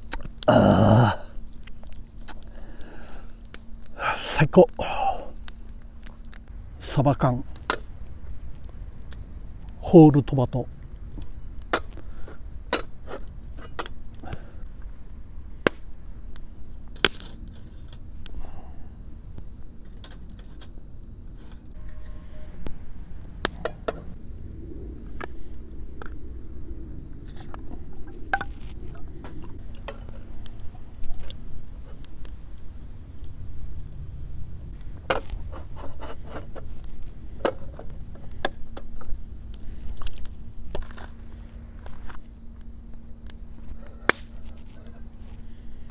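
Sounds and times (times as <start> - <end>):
crickets chirring: 0.0 - 45.9.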